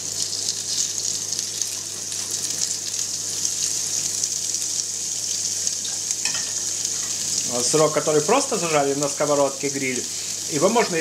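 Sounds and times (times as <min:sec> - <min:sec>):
cheese sizzling in a pan: 0:00.0 - 0:11.0.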